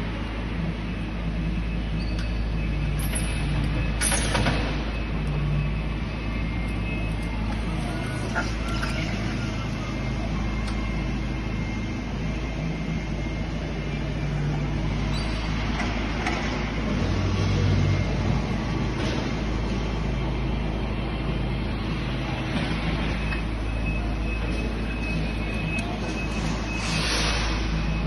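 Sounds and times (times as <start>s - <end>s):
machine noise: 0.0s - 28.0s.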